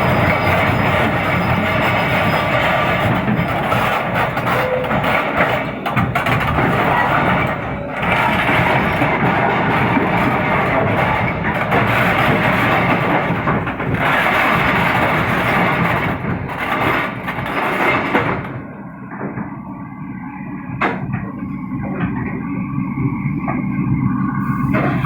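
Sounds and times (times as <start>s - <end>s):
heavy diesel machinery engine: 0.0s - 25.0s.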